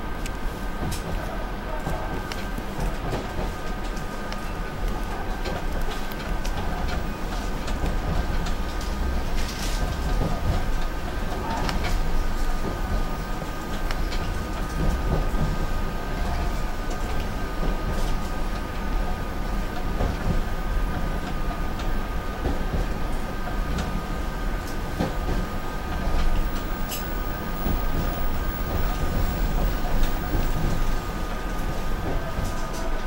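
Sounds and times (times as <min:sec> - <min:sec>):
rumble of train wheels on rail: 0:00.0 - 0:33.0.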